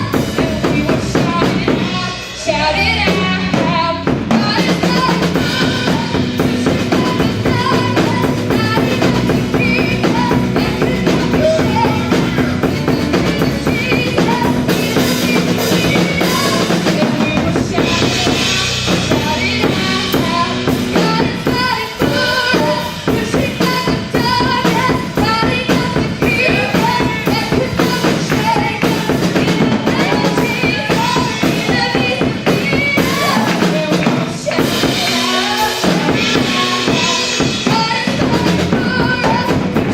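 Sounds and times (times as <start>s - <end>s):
drum kit beat: 0.0s - 39.9s
worship band playing: 0.0s - 39.9s.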